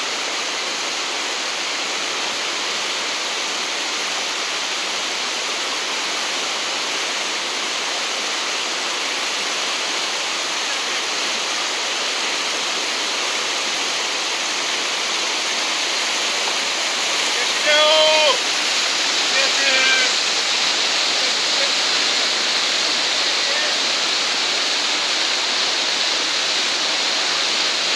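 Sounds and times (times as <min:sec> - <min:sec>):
river rapids rushing over boulders: 0:00.0 - 0:27.9.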